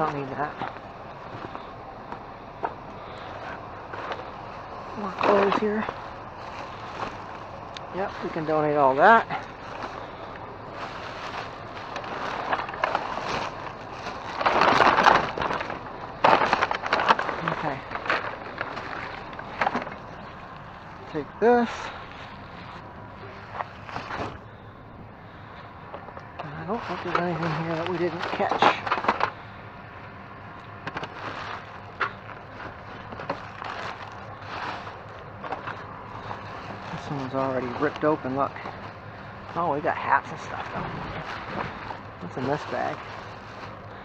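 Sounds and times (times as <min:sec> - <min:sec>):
low hum: 0:00.0 - 0:44.0
rustling bags of clothing: 0:00.0 - 0:44.0.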